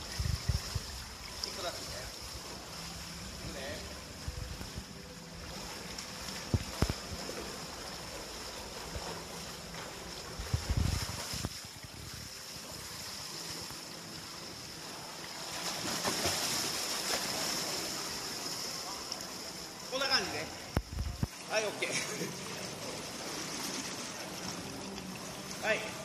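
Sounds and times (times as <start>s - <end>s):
steady hiss in pool hall: 0.0s - 26.0s
water splashing from swimming: 0.0s - 26.0s.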